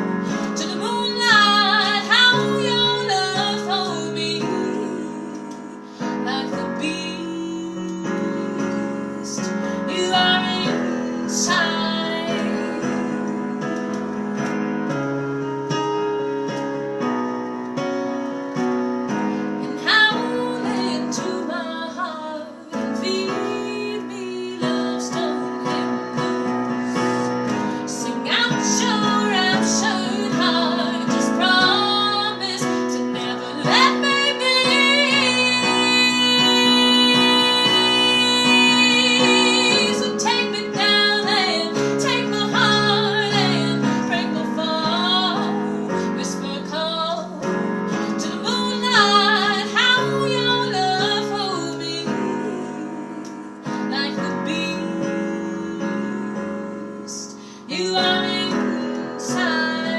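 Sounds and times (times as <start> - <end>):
woman singing jazz: 0.0 - 14.4, 19.6 - 59.9
piano chords: 0.0 - 59.9.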